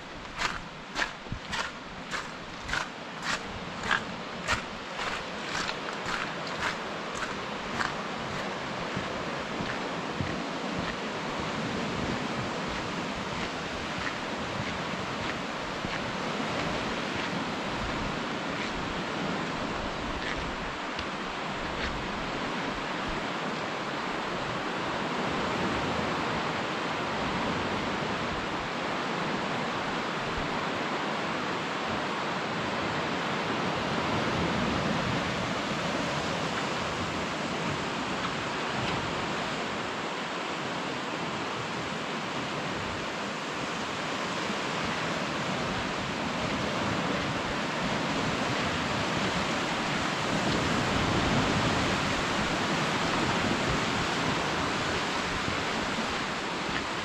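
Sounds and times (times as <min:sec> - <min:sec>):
river rapids rushing: 0:00.0 - 0:57.0.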